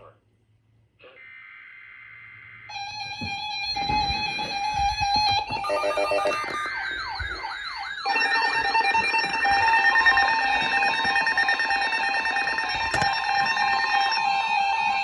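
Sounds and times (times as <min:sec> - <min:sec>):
steady electronic tones: 0:02.7 - 0:15.0.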